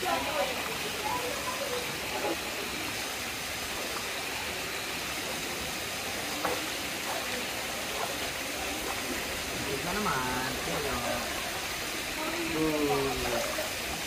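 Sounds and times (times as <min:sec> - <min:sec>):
water pouring into pool: 0:00.0 - 0:14.0.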